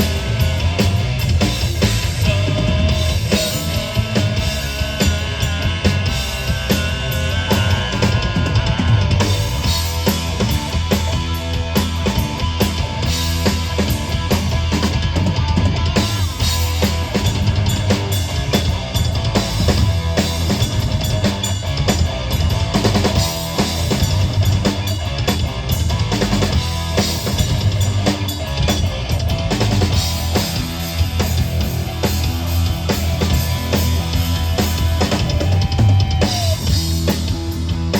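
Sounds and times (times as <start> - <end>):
drum kit hits with rimshots: 0.0 - 37.9
rock band playing: 0.0 - 37.9.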